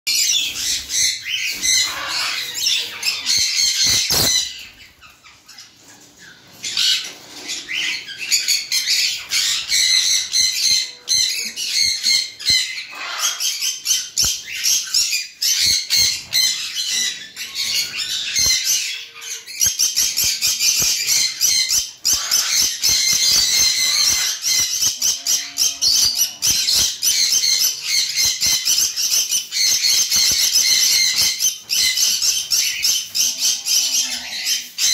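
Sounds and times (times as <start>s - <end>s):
birds squawking chatter: 0.1s - 34.9s.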